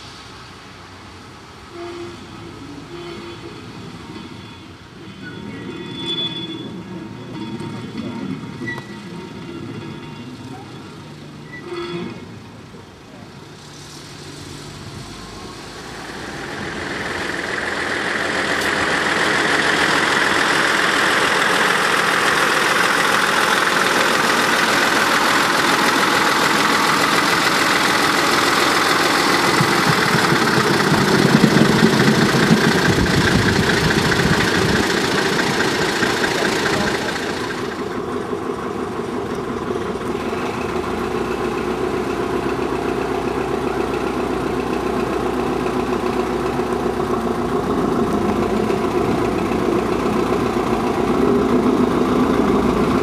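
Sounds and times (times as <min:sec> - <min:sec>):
train coaches rolling past: 0:00.0 - 0:53.0.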